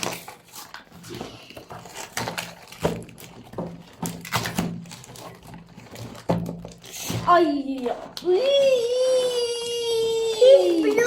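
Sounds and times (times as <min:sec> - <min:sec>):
toys and packaging knocking: 0:00.0 - 0:09.4.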